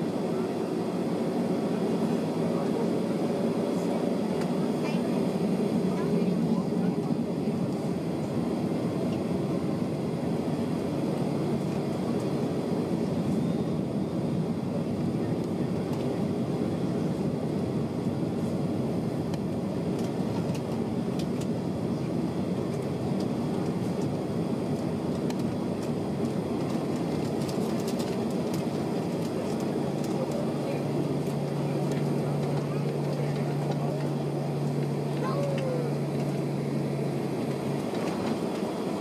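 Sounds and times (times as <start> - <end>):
jet cabin engine hum and rumble: 0.0 - 39.0.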